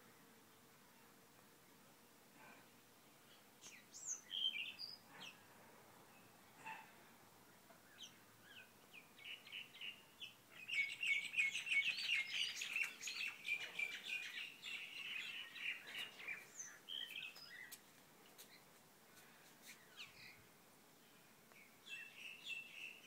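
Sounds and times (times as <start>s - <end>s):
small birds chirping: 0.5s - 23.0s.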